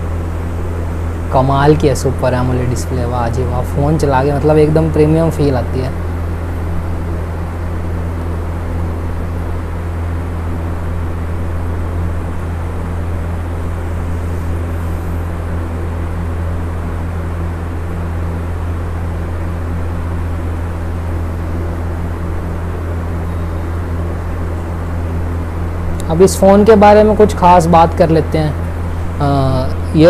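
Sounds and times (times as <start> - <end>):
constant hiss: 0.0 - 30.0
low hum: 0.0 - 30.0.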